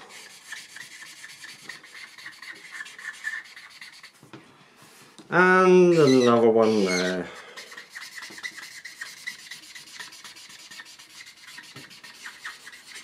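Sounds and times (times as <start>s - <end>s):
marker scratching on paper: 0.0s - 4.3s, 5.8s - 13.0s.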